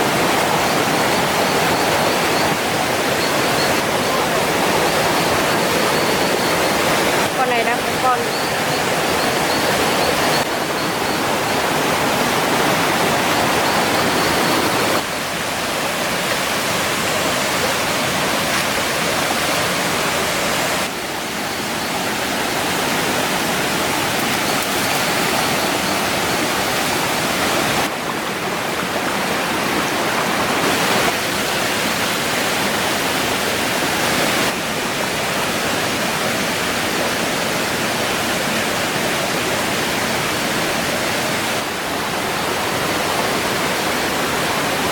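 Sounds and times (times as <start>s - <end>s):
flowing water rushing: 0.0s - 44.9s.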